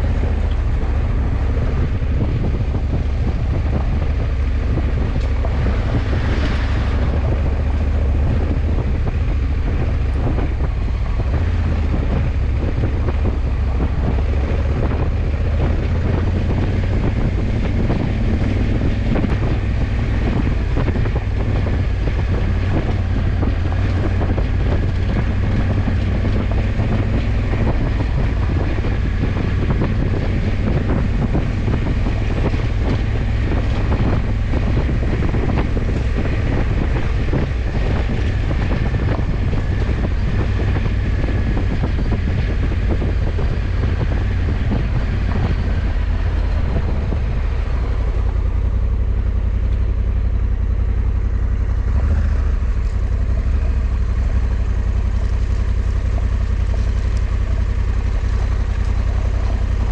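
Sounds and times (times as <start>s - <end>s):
motorcycle engine rumble: 0.0s - 59.9s
road noise: 0.0s - 59.9s
wind buffeting microphone: 0.0s - 59.9s.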